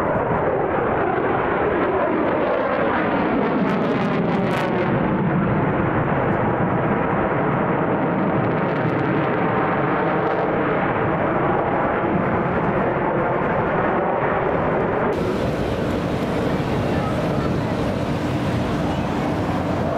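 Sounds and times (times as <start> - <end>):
loud jet engine rush: 0.0 - 19.9.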